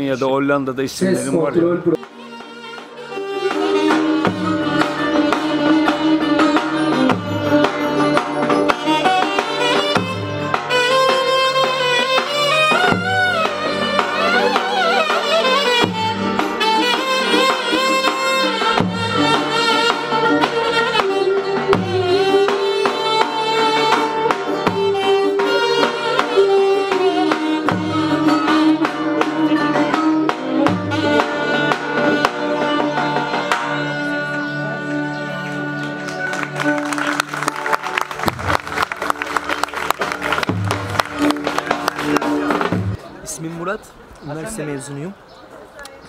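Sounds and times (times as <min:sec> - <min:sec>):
band playing: 0:00.7 - 0:45.1
violin: 0:01.5 - 0:43.0
saxophone melody: 0:01.6 - 0:43.0
keyboard bass and drum beat: 0:02.0 - 0:34.8, 0:36.4 - 0:43.2.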